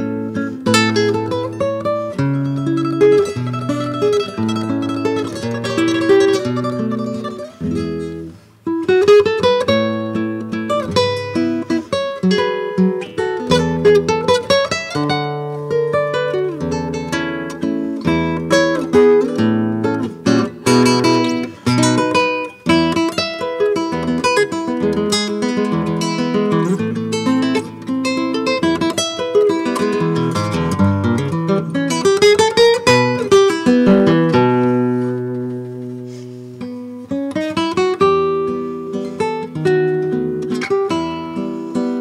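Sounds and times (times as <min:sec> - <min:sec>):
classical guitar playing a waltz: 0:00.0 - 0:42.0.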